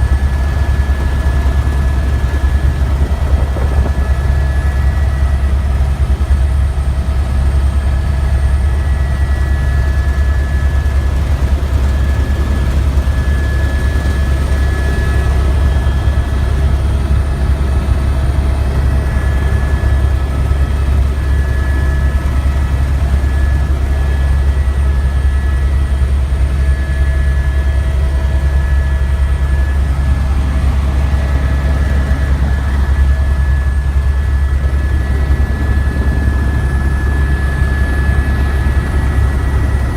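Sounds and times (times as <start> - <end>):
helicopter drone: 0.0 - 39.9
high helicopter whine: 0.0 - 39.9.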